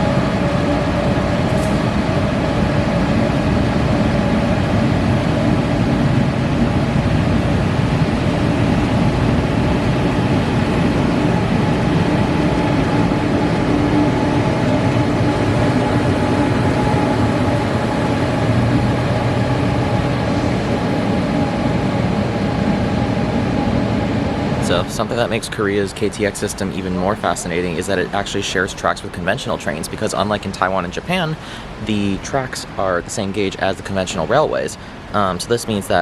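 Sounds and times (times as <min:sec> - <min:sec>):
train rumble from inside: 0:00.0 - 0:36.0.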